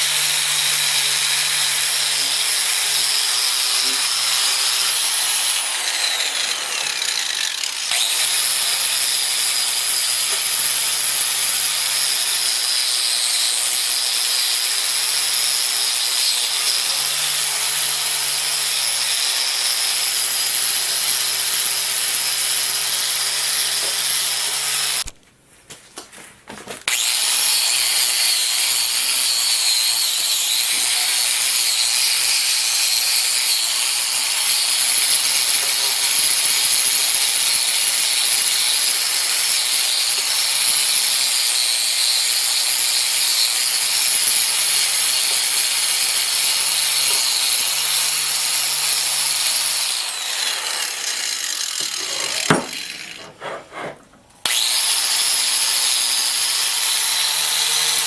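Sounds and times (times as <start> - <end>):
high-pitched power tool cutting: 0.0 - 25.1, 26.9 - 53.4, 54.4 - 58.0.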